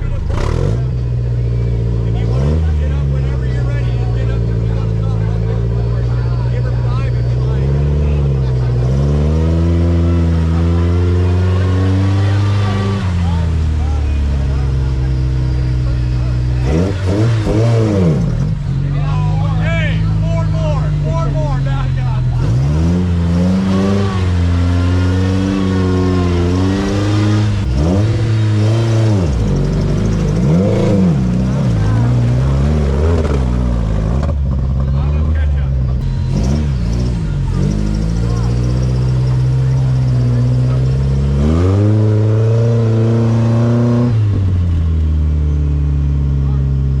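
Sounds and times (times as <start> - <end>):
engine running and revving: 0.0 - 47.0.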